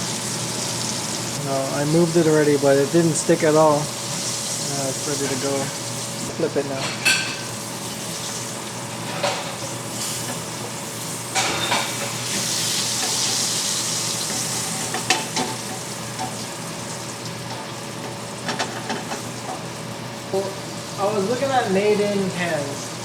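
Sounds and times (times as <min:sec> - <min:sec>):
fish sizzling in oil: 0:00.0 - 0:06.4, 0:07.0 - 0:23.0.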